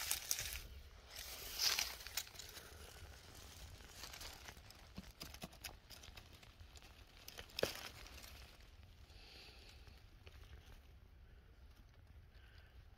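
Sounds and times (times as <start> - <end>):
dry leaves and twigs rustling: 0.0 - 12.9.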